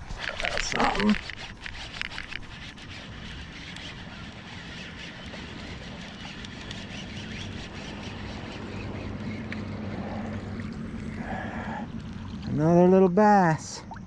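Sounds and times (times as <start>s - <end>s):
low engine drone: 2.6s - 14.0s.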